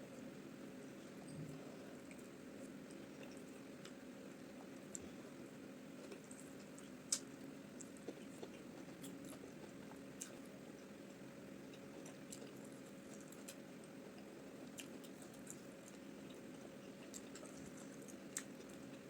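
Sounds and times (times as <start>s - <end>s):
soft wet chewing: 0.9s - 19.0s.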